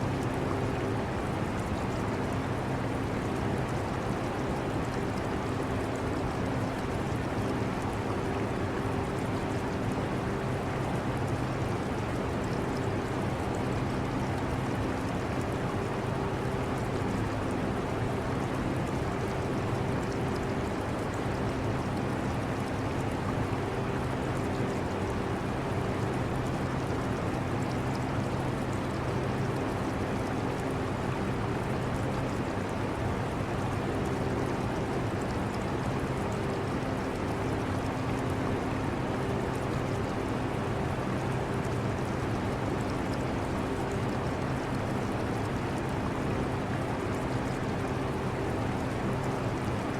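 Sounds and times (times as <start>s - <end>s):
aquarium water trickling: 0.1s - 49.9s.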